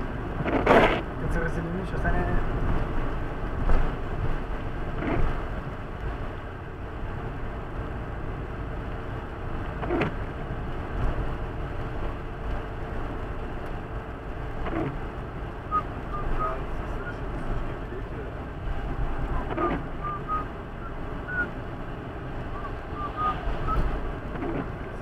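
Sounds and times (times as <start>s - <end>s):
engine and tyre noise inside car: 0.0s - 25.0s.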